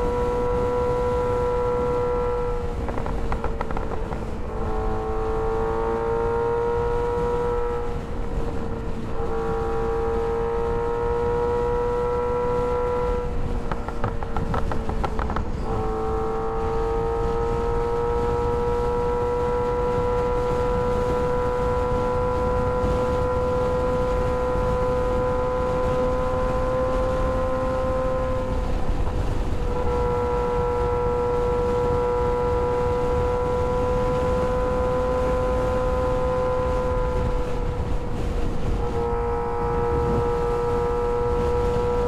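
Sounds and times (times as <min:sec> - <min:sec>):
motorcycle engine cruising: 0:00.0 - 0:42.0
wind rumble: 0:00.0 - 0:42.0.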